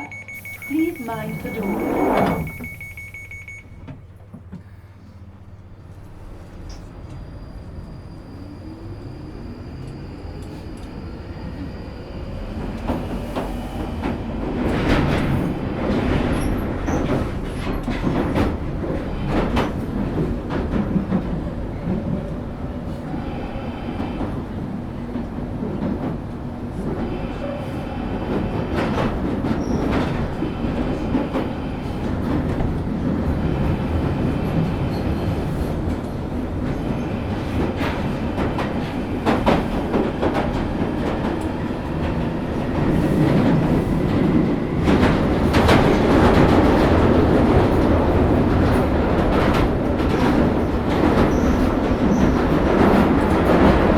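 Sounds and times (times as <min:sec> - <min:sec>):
train wheels rumbling on rail: 0:00.1 - 0:53.9.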